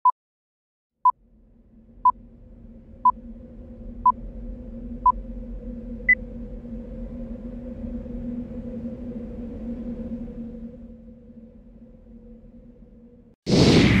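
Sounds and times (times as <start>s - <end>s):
low drone: 1.2s - 14.0s.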